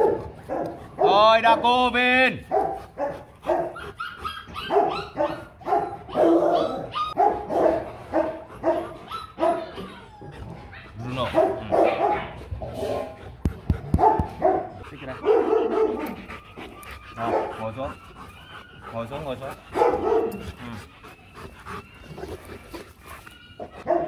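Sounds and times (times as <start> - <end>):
dogs barking: 0.0 - 1.8, 2.4 - 21.0, 23.6 - 24.0.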